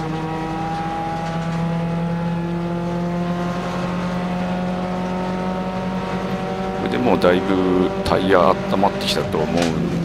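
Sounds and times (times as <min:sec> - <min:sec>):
race car engine accelerating: 0:00.0 - 0:10.0.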